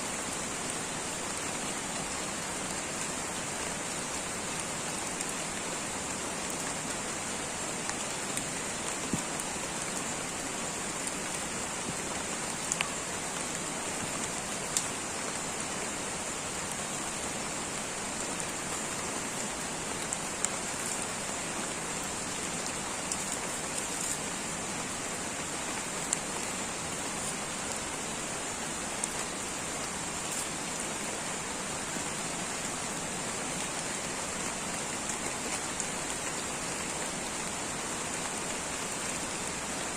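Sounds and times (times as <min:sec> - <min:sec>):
light rain on foliage: 0:00.0 - 0:39.9.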